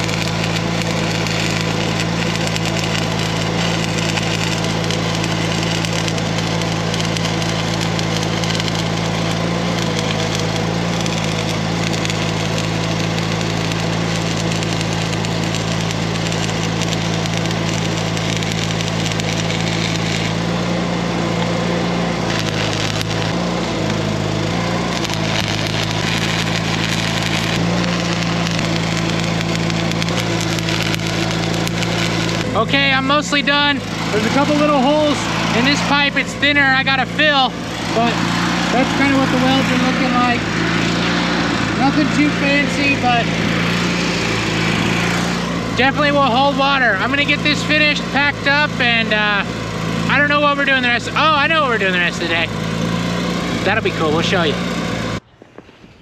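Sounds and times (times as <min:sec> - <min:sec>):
arc welding crackle: 0:00.0 - 0:55.8
low machine hum: 0:00.0 - 0:56.0.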